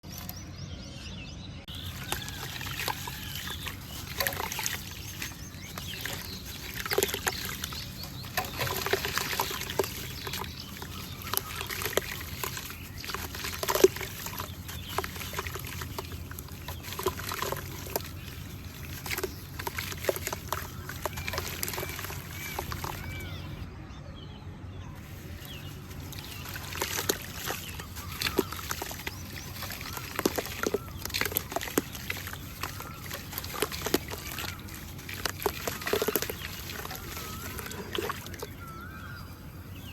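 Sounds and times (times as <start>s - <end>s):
water trickling over pebbles: 0.0s - 0.5s, 1.7s - 23.6s, 25.0s - 39.9s.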